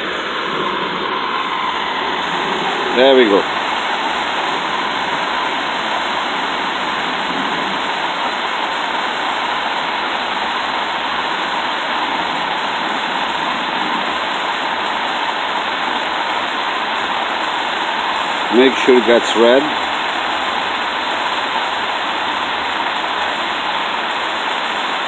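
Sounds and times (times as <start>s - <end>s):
gas torch hissing: 0.0s - 25.0s.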